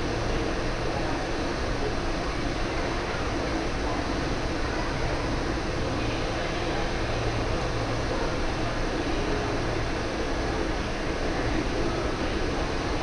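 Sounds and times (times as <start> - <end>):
ventilation fans humming: 0.0 - 13.0.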